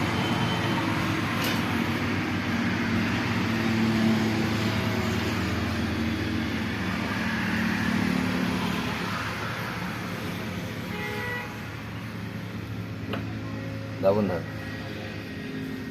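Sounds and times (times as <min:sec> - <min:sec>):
engine running steadily: 0:00.0 - 0:15.9.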